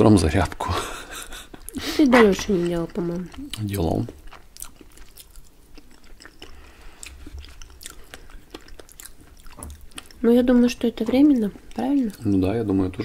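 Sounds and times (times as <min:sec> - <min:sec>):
people chewing: 0:00.3 - 0:13.0.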